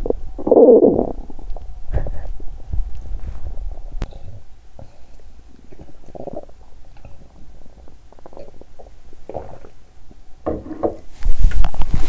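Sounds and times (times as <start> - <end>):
stomach growling and gurgling: 0.0 - 10.2.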